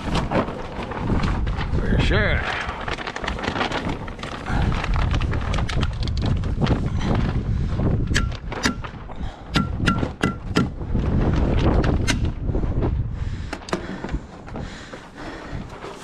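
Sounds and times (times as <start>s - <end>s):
wind rumble on microphone: 0.0s - 15.8s.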